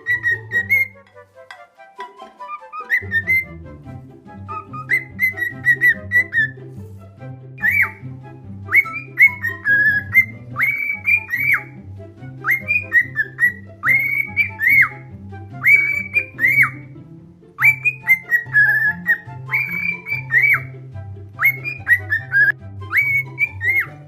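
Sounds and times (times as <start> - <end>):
cockatiel whistling: 0.0 - 3.6, 4.5 - 6.6, 7.6 - 8.1, 8.7 - 11.8, 12.4 - 16.9, 17.6 - 20.8, 21.4 - 24.0
background music with bass line: 0.0 - 24.0.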